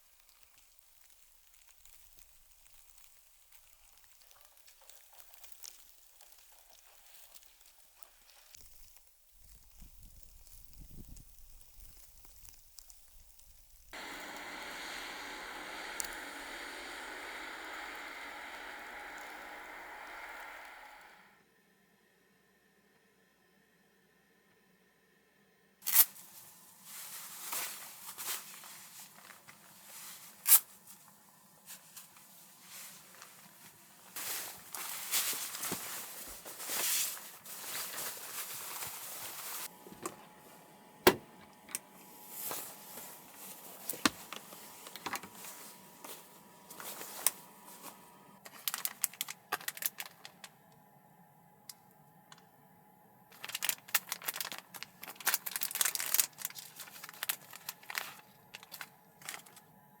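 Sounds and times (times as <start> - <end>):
crinkling rustles: 0.0 - 21.2, 25.9 - 40.4, 41.5 - 50.5, 53.3 - 59.7.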